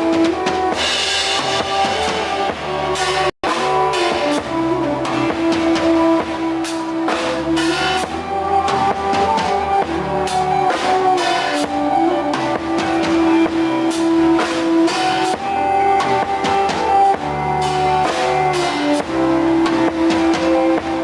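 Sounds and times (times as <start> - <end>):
band music: 0.0 - 21.0.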